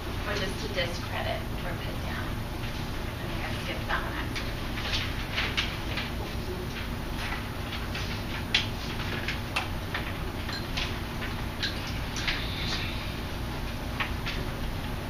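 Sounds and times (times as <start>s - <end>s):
low room hum: 0.0s - 15.0s
students writing and handling papers: 0.0s - 15.0s.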